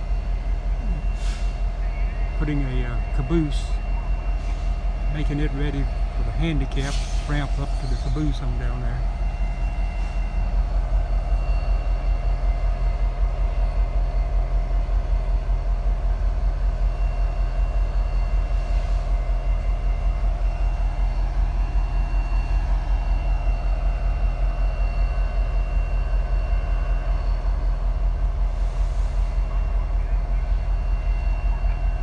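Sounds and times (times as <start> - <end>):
diesel locomotive engine idling: 0.0 - 32.0.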